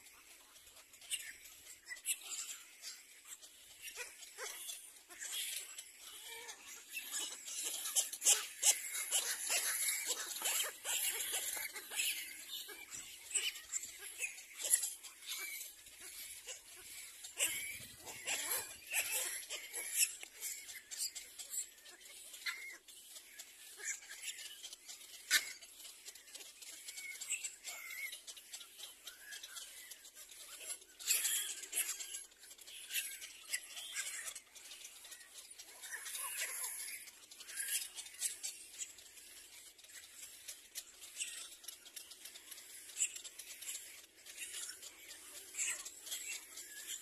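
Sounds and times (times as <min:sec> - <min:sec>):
chicks high squeaky calls: 0:00.0 - 0:47.0.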